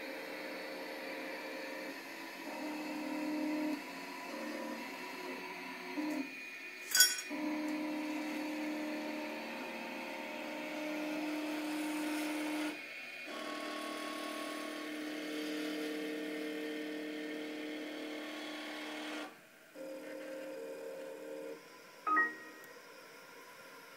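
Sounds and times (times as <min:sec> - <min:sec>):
electric motors whirring: 0:00.0 - 0:23.2.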